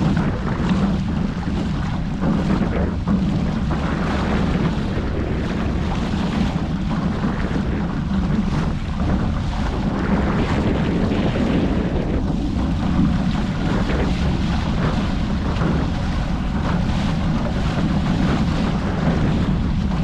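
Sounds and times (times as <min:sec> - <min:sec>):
water rushing past hulls: 0:00.0 - 0:20.0
wind buffeting microphone: 0:00.0 - 0:20.0.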